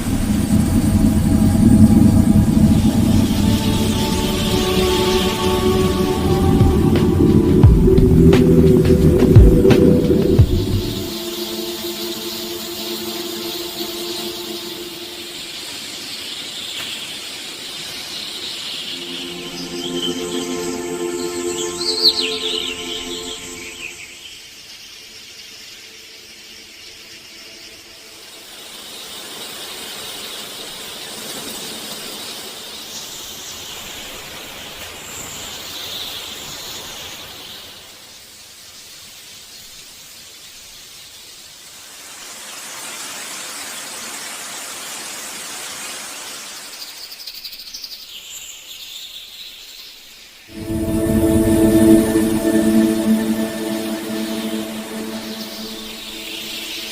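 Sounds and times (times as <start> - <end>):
steady outdoor hiss: 0.0 - 56.9.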